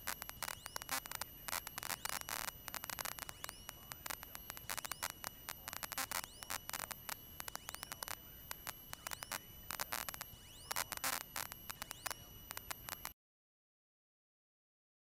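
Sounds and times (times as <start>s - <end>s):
static crackles and clicks: 0.0s - 13.2s
thin steady high whine: 0.0s - 13.2s.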